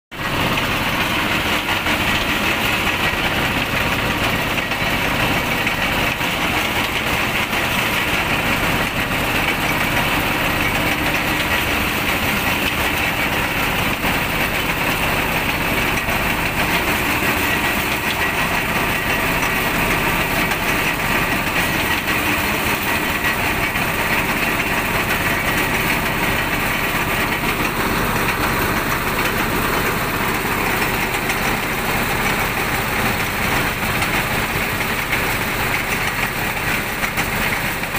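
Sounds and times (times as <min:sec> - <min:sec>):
sugarcane crusher motor running: 0:00.2 - 0:37.9.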